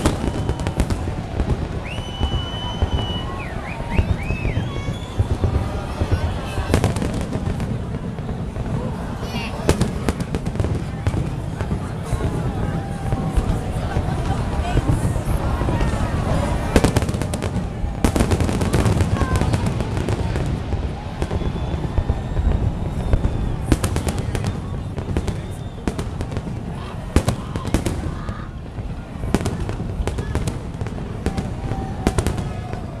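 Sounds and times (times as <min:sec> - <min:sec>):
fireworks bangs and crackles: 0:00.0 - 0:33.0
low din of explosions: 0:00.0 - 0:33.0.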